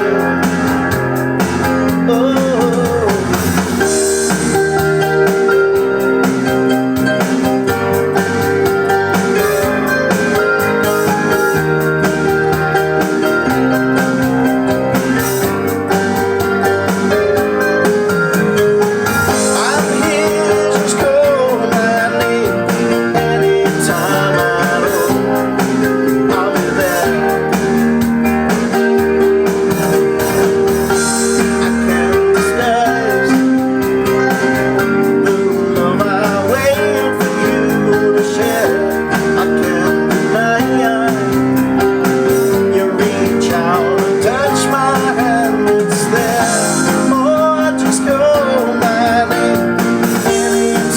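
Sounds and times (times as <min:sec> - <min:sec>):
keyboard backing track: 0:00.0 - 0:50.9
piano chords: 0:00.0 - 0:50.9.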